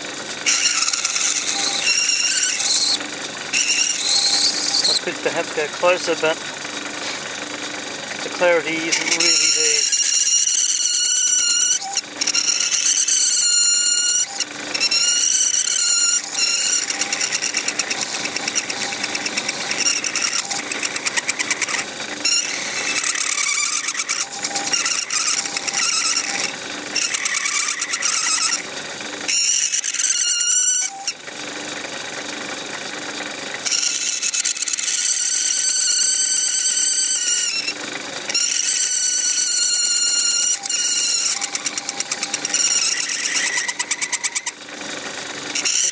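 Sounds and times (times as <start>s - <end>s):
lathe motor humming: 0.0s - 45.9s
lathe tool squealing: 0.0s - 45.9s.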